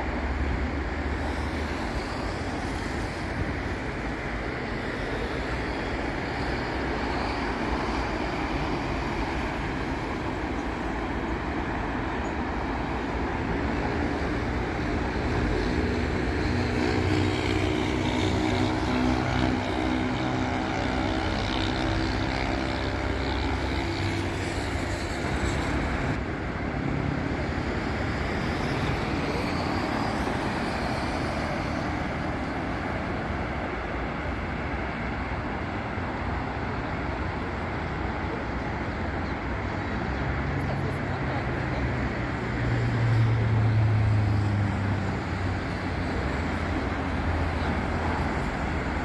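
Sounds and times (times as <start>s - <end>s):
road traffic passing: 0.0s - 49.0s.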